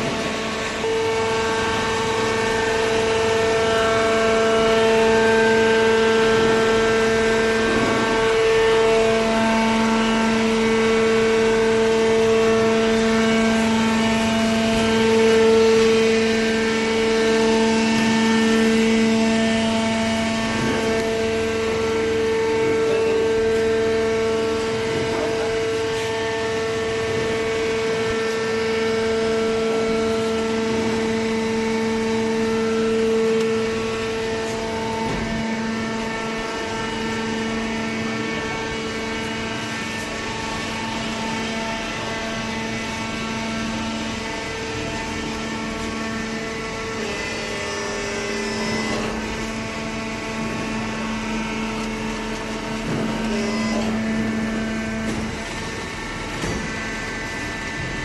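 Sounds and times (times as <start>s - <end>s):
hydraulic motor humming: 0.0s - 58.0s.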